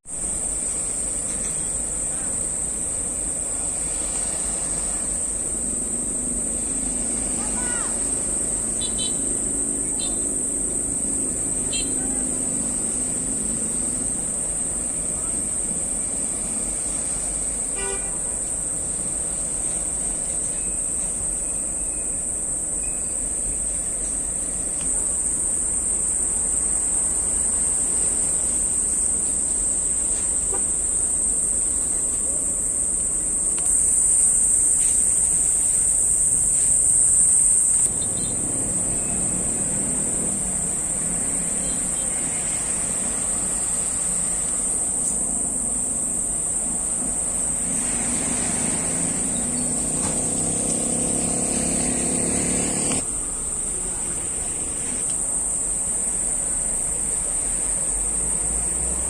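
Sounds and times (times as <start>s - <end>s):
high-pitched insect drone: 0.1s - 59.0s.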